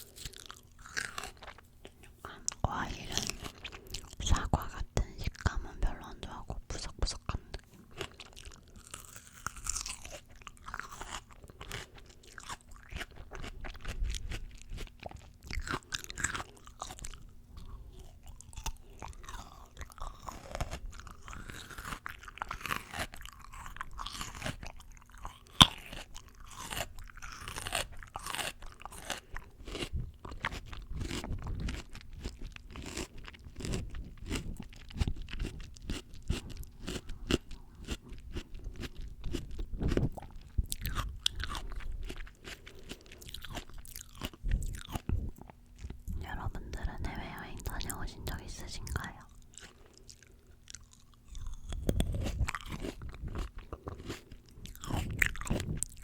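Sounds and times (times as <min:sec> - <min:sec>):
crunching and chewing fruit: 0:00.0 - 0:56.0.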